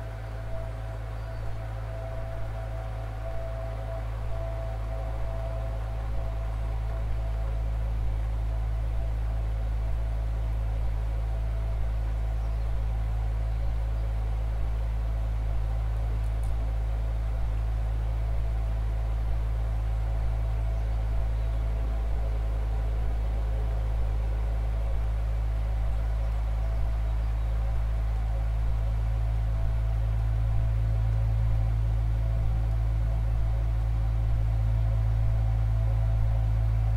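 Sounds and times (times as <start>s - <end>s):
low organ drone: 0.0s - 36.9s.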